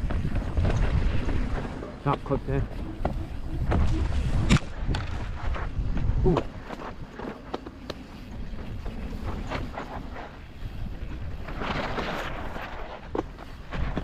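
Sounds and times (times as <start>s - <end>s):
bike rattling and knocking: 0.0s - 14.0s
tyres crunching over dirt: 0.0s - 14.0s
wind rumbling on microphone: 0.0s - 14.0s.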